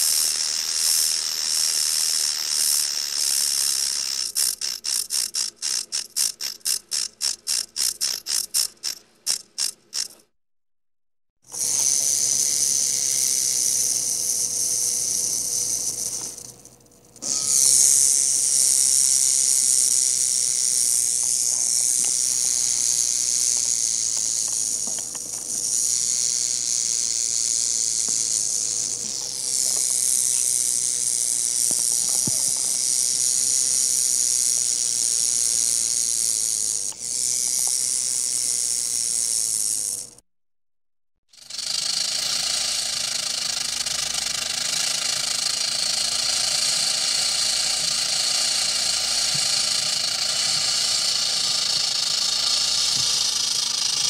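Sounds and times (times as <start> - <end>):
rattlesnake rattle buzzing: 0.0 - 10.2, 11.5 - 40.2, 41.3 - 54.0.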